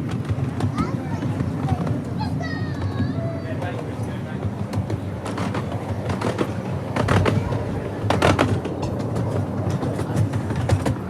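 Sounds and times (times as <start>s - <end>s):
miniature train rumbling on track: 0.0s - 11.0s.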